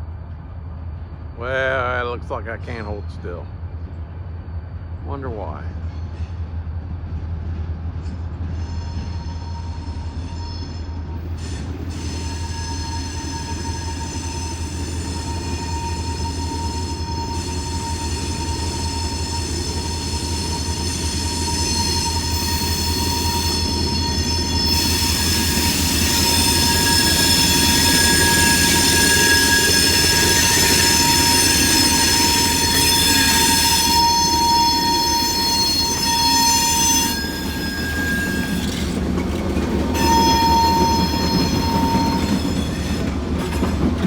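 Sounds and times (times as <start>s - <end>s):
locomotive rumble: 0.0s - 44.0s
wheels squealing on rails: 0.0s - 44.0s.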